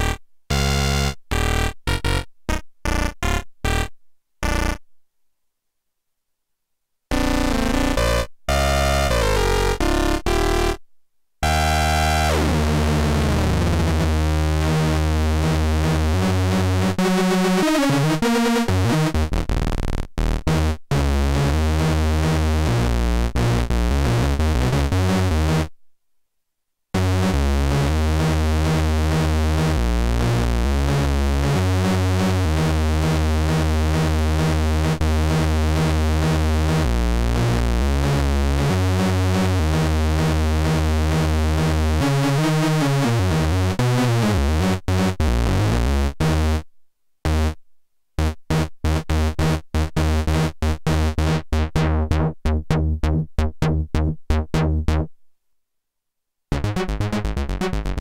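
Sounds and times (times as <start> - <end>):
buzzy analog synthesizer notes: 0.0 - 4.8, 7.1 - 10.8, 11.4 - 25.7, 27.0 - 46.6, 47.3 - 47.6, 48.2 - 55.1, 56.5 - 58.0.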